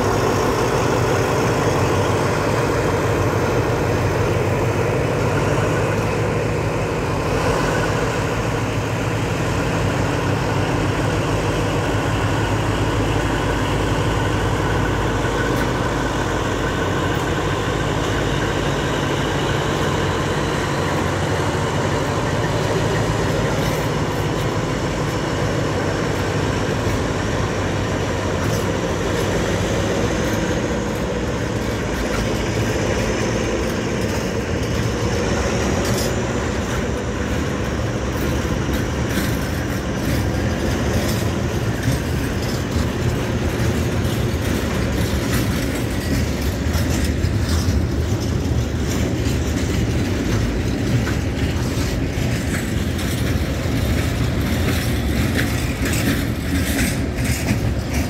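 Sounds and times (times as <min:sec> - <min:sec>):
diesel locomotive engines droning: 0:00.0 - 0:58.0
freight wagons rolling past: 0:00.0 - 0:58.0.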